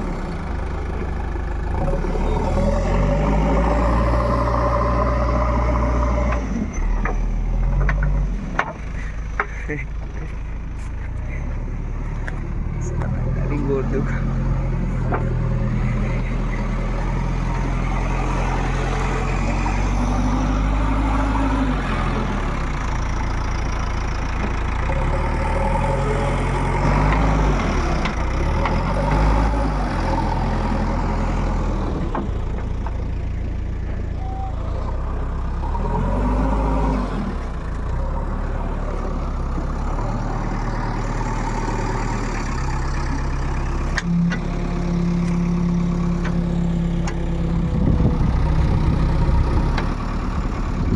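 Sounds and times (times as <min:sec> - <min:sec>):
heavy diesel engine revving: 0:00.0 - 0:50.9.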